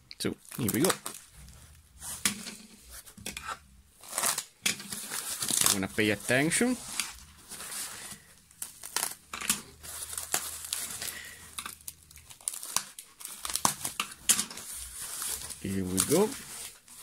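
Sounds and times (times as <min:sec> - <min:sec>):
plastic wrap crinkling and tearing: 0:00.3 - 0:17.0
tape flap peeling: 0:00.6 - 0:05.9, 0:06.8 - 0:17.0.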